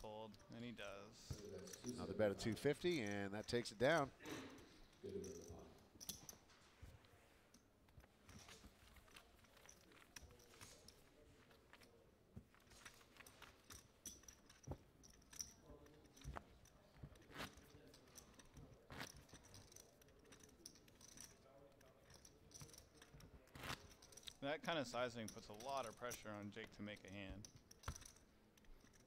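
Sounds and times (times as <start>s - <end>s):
faint room murmur: 0.0s - 29.0s.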